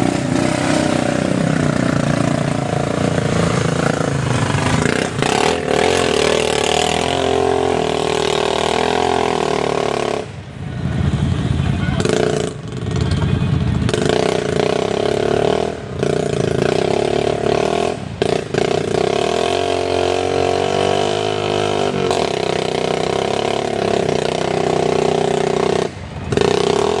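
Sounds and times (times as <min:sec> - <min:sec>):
atv engine revving hard: 0:00.0 - 0:10.4, 0:12.0 - 0:27.0.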